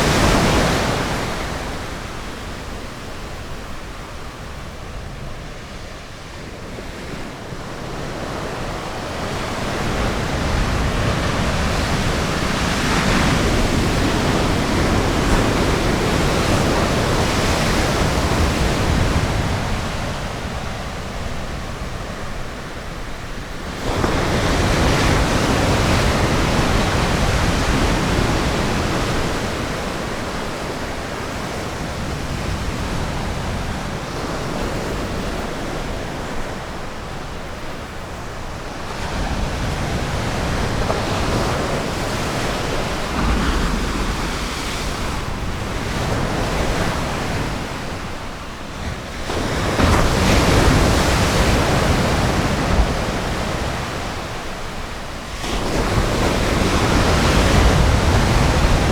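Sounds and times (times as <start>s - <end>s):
ocean surf breaking: 7.1s - 58.9s.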